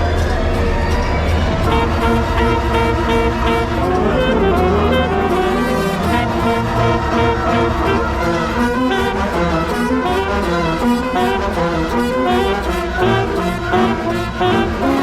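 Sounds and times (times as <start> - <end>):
wind band playing: 1.4 - 15.0
alto saxophone: 1.6 - 15.0.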